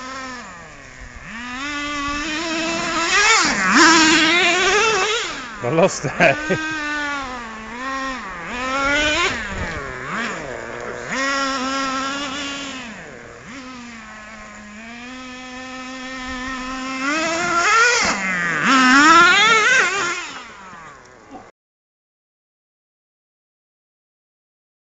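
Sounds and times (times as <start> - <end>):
toy truck engine revving: 0.0 - 21.5.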